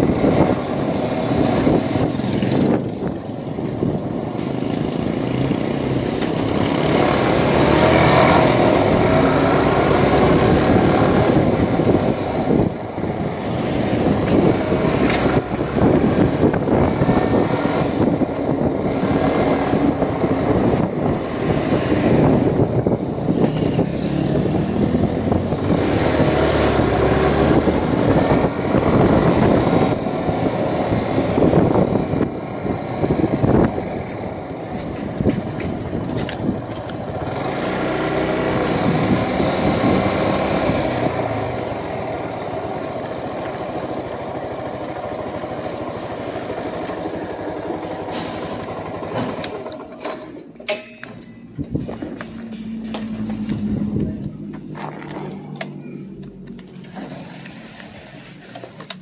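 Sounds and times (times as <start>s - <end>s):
motorcycle engine running: 0.0s - 50.4s.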